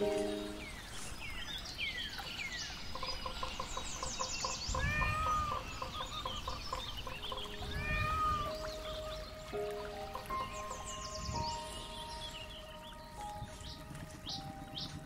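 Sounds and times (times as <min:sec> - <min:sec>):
soft background music: 0:00.0 - 0:01.1, 0:02.9 - 0:15.0
birds chirping and calling: 0:00.0 - 0:15.0.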